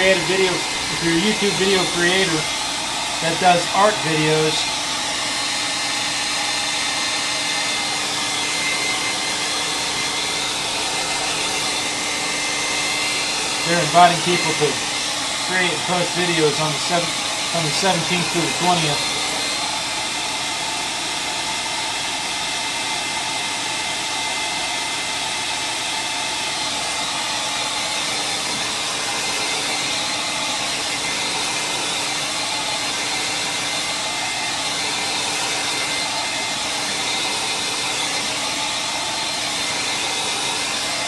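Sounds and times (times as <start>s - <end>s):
hand-held dryer blowing: 0.0s - 41.0s.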